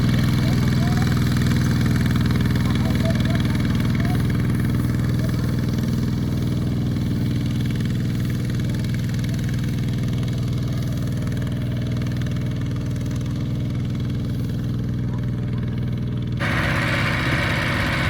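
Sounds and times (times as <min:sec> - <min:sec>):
farm machine engine droning: 0:00.0 - 0:18.0.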